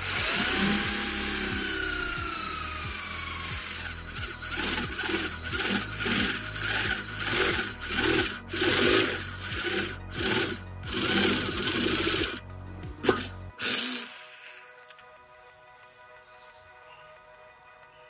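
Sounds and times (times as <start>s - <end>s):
electric drill boring through steel: 0.0s - 15.0s.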